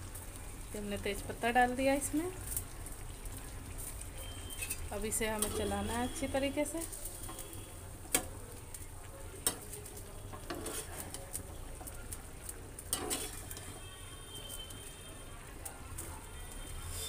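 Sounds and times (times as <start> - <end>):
oil sizzling: 0.0 - 17.0
metal spoon stirring in a pan: 1.1 - 17.0.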